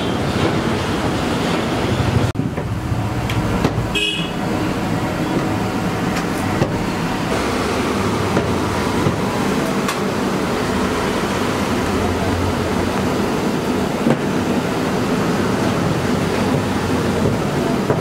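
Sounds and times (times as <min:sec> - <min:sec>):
mechanical rumble with hiss: 0:00.1 - 0:18.0.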